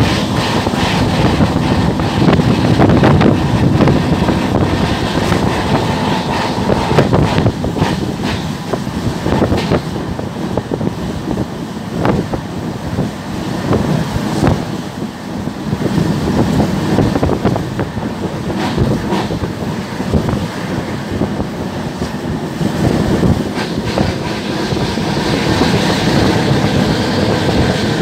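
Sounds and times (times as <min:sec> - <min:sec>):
train wheels rumbling on rails: 0:00.0 - 0:28.0
wind rushing past microphone: 0:00.0 - 0:28.0.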